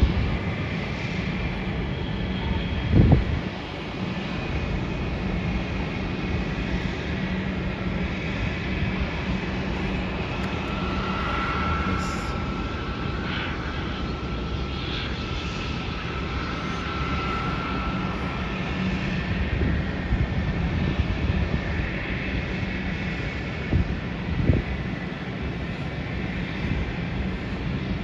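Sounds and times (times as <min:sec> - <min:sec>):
distant airliner engines running: 0:00.0 - 0:28.0.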